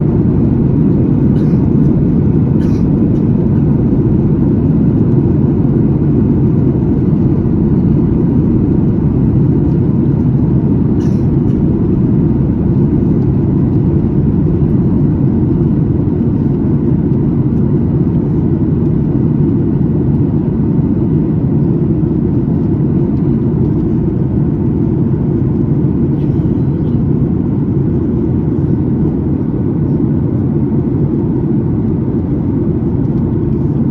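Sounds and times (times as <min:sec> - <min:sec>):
aircraft cabin engine rumble: 0:00.0 - 0:33.9.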